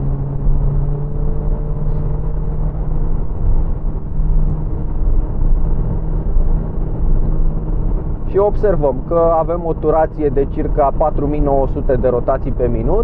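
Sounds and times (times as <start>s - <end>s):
car engine humming at high revs: 0.0s - 13.0s.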